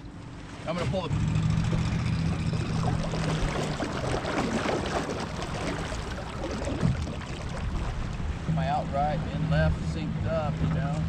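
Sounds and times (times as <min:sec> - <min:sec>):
electric motor low hum: 0:00.0 - 0:11.0
water rushing along hull: 0:00.0 - 0:11.0.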